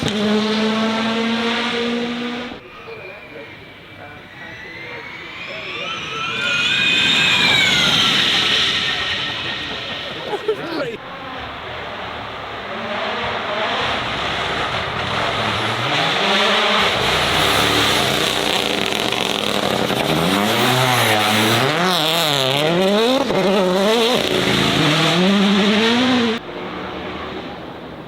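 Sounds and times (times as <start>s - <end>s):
race car engine revving: 0.0s - 2.7s, 5.5s - 28.0s.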